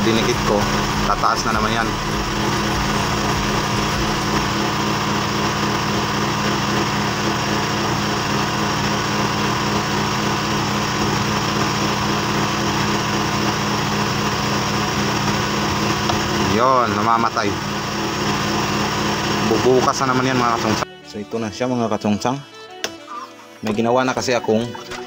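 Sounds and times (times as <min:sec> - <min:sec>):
generator engine droning: 0:00.0 - 0:20.9.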